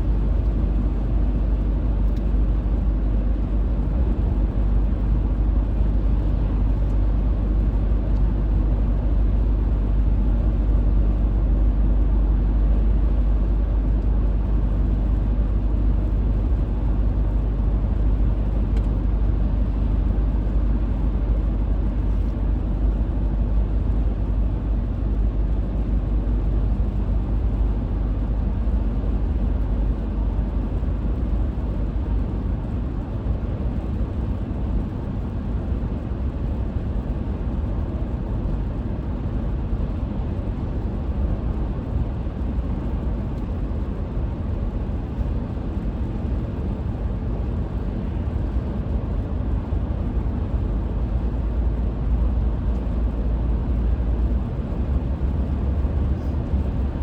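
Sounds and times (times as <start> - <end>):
car driving at highway speed: 0.0 - 57.0.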